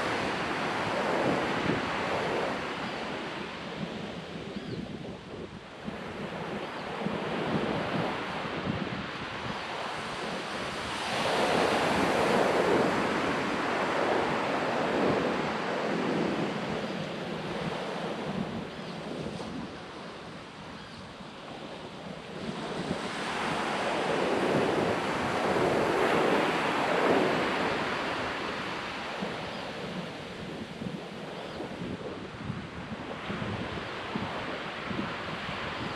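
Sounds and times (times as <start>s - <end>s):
waves breaking on sand beach: 0.0s - 35.9s.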